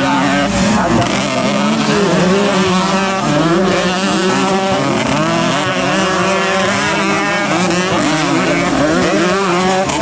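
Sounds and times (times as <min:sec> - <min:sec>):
racing motorcycle engines revving: 0:00.0 - 0:10.0.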